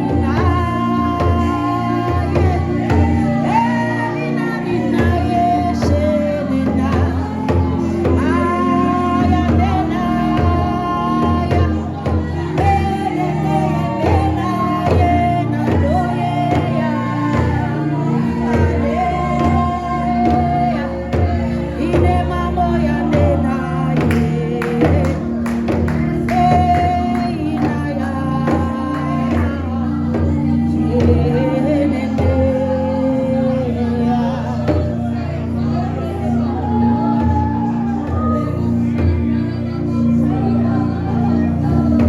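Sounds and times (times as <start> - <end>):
instrumental accompaniment: 0.0 - 42.0
voices singing gospel: 0.0 - 42.0.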